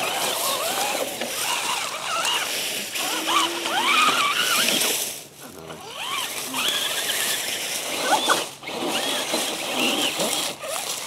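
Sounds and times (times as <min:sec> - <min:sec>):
toy truck motors whining: 0:00.0 - 0:11.0.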